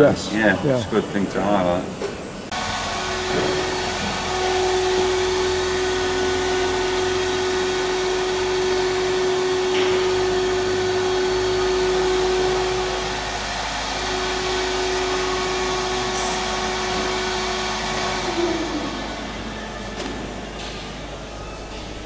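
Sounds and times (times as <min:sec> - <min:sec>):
machine motor whirring: 0:01.9 - 0:22.0.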